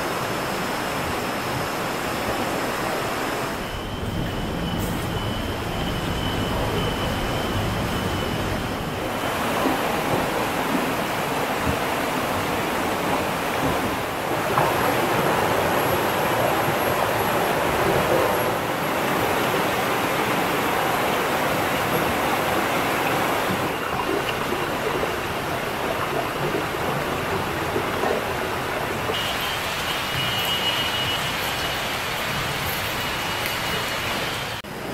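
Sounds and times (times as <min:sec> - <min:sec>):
stream rushing over rocks: 0:00.0 - 0:04.6, 0:07.7 - 0:34.9.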